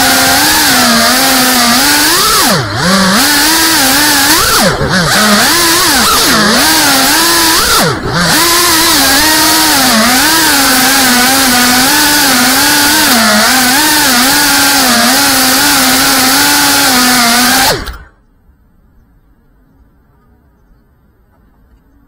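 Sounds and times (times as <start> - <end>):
drone motors buzzing: 0.0 - 18.3.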